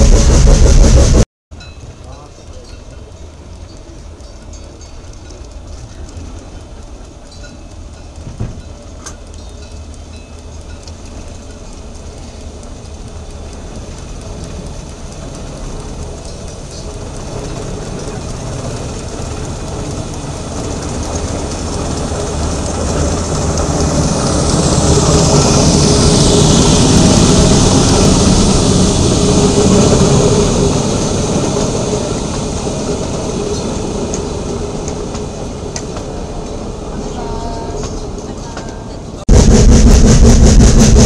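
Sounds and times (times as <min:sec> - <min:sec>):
high train whine: 0:00.0 - 0:41.0
train rumble and clatter: 0:00.0 - 0:41.0.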